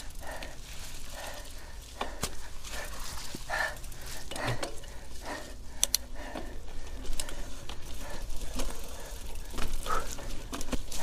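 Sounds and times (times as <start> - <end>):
bike frame rattling and clattering: 0.0 - 11.0.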